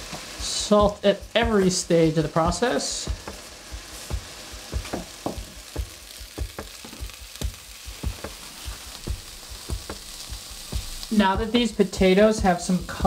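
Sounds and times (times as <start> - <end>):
potatoes sizzling with sharp pops: 0.0 - 13.0.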